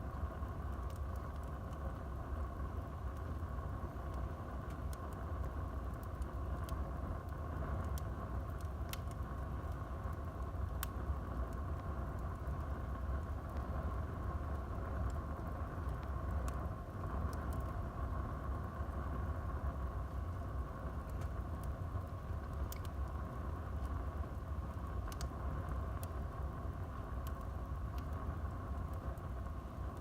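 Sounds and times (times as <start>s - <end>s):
fire crackles: 0.0s - 30.0s
low rumble of flames: 0.0s - 30.0s.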